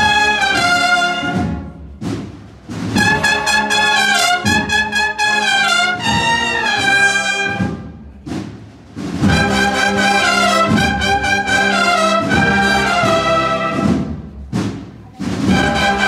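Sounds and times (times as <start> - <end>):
cornet band playing a march: 0.0 - 16.0.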